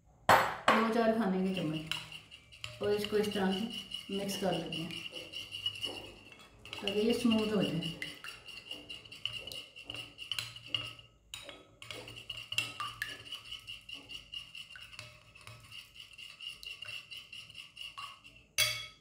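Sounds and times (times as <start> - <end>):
spoon clinking and scraping bowl: 0.8 - 19.0.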